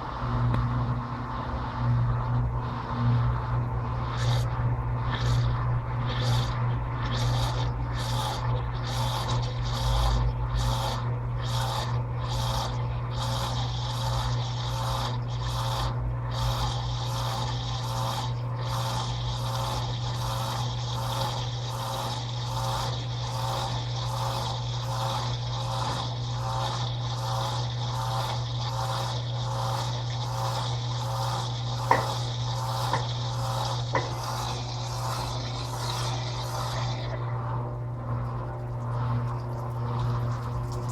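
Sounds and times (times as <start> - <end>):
motor humming: 0.0 - 40.9
washing machine water swishing: 0.0 - 40.9.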